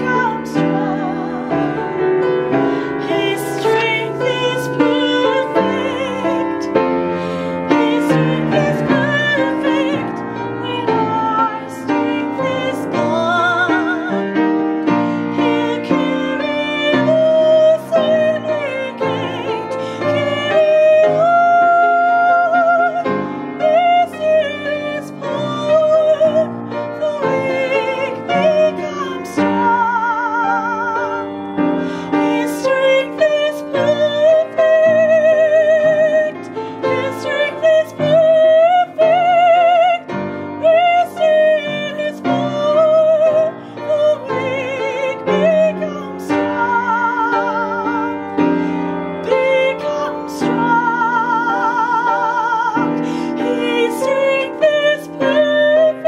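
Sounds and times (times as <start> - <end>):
upright piano: 0.0 - 56.0
woman singing with vibrato: 0.0 - 56.0.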